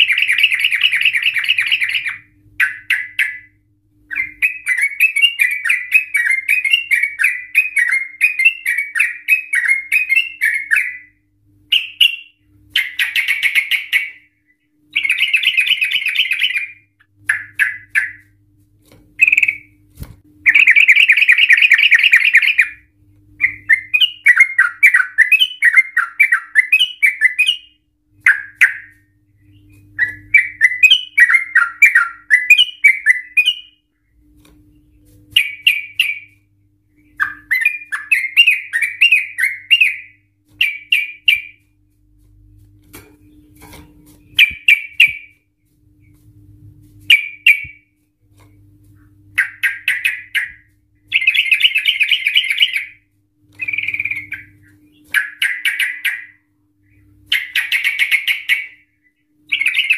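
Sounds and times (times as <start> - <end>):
bird warbling and trilling: 0.0 - 14.3, 14.9 - 18.4, 19.2 - 19.8, 20.4 - 33.8, 34.7 - 36.4, 37.0 - 41.6, 43.2 - 45.4, 47.1 - 47.9, 49.3 - 53.0, 53.6 - 58.8, 59.5 - 59.9.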